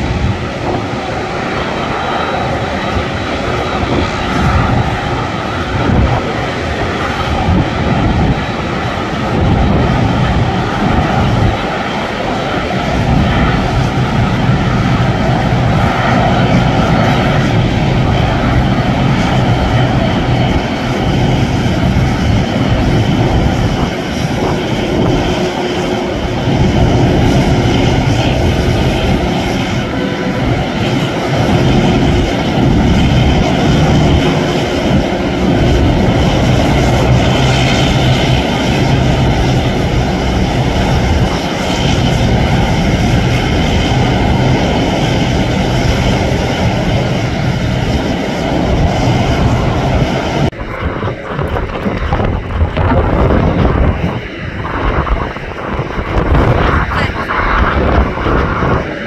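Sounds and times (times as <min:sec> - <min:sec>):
jet engine hiss: 0:00.0 - 0:59.0
jet engines rumbling: 0:00.0 - 0:59.0.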